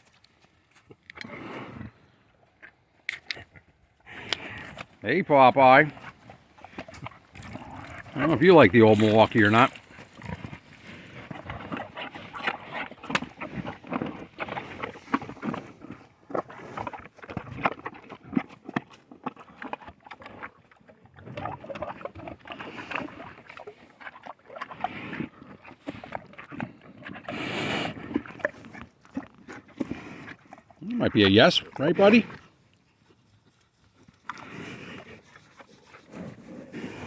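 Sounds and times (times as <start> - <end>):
animal slurping: 5.7 - 37.0.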